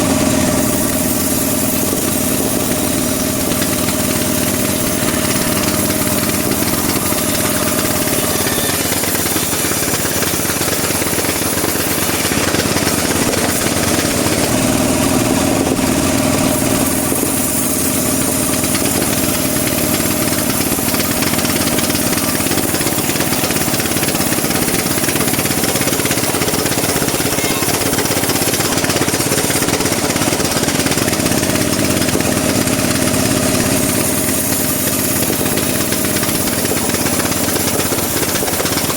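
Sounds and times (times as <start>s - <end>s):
bandsaw mill sawing wood: 0.0s - 38.9s.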